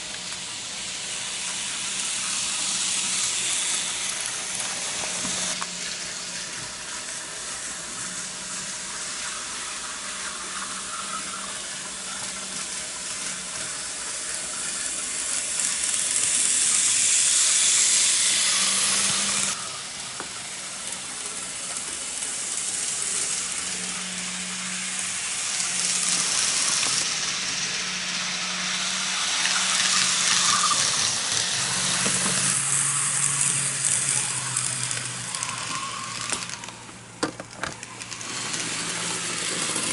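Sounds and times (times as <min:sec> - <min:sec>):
faint motor hum: 0:00.0 - 0:39.9
model train wheels rattling: 0:00.0 - 0:39.9.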